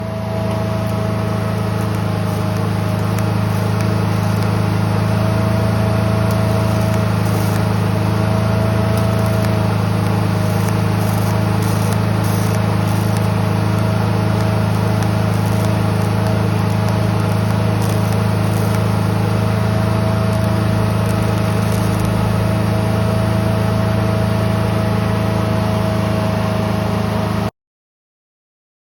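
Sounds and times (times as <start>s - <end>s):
welder humming with whine: 0.0s - 27.5s.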